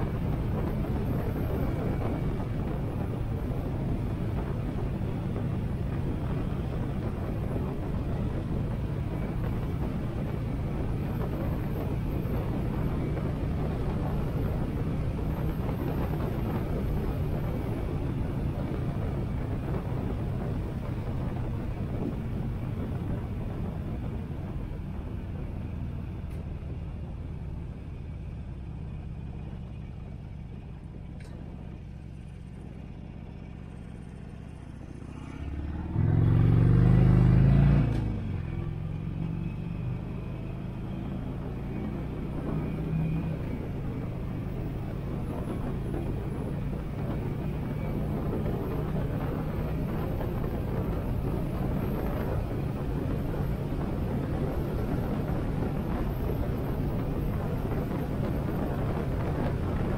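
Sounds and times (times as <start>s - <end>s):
road and wind noise: 0.0s - 59.9s.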